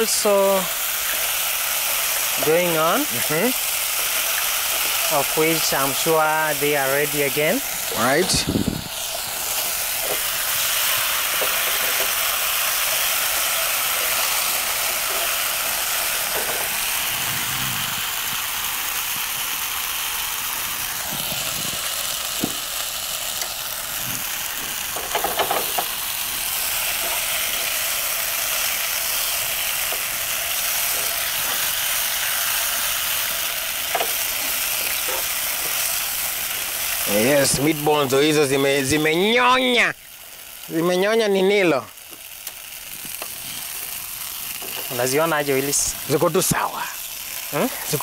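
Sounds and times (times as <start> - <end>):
meatballs sizzling in frying pan: 0.0 - 48.0.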